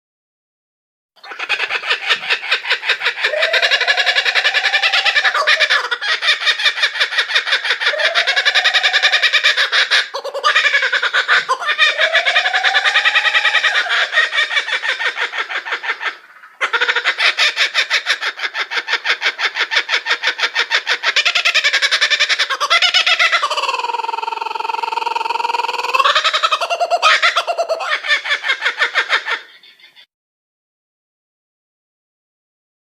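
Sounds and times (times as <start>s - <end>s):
bird laughing call: 1.2s - 30.1s.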